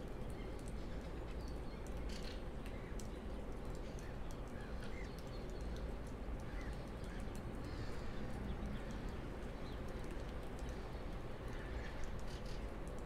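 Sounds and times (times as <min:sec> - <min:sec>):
light ticks: 0:00.0 - 0:13.0
songbird chirps: 0:00.1 - 0:13.0.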